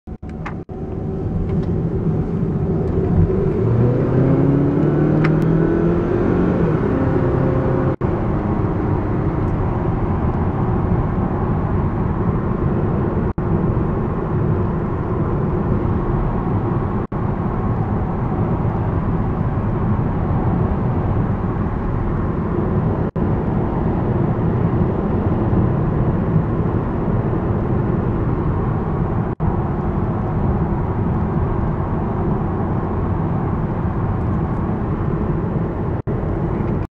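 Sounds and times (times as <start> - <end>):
car engine accelerating: 0.1 - 36.9
road and tyre noise: 0.1 - 36.9.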